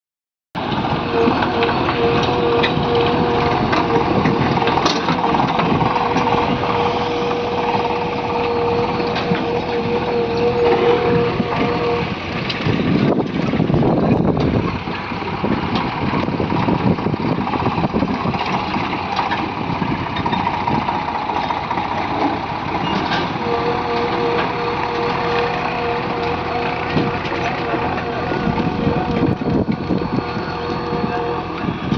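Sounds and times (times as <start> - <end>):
excavator diesel engine: 0.6 - 31.9
steady whine: 0.6 - 31.9.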